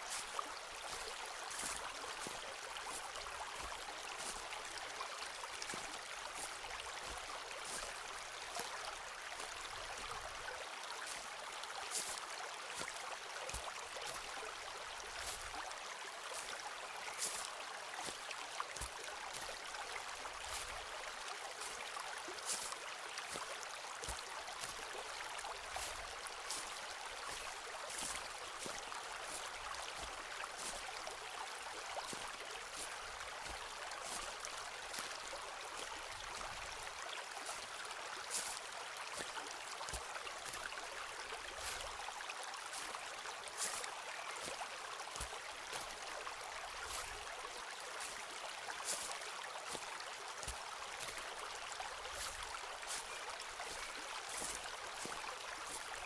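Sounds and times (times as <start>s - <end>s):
footsteps in a forest: 0.0s - 56.0s.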